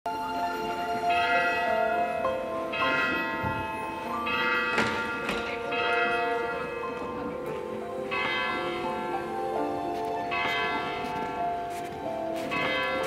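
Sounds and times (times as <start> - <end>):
church bells pealing: 0.1 - 13.0.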